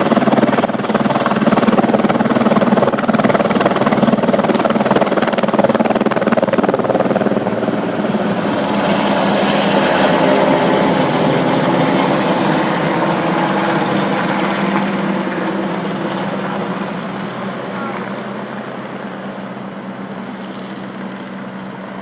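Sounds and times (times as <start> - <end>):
helicopter rotor beating: 0.0 - 22.0.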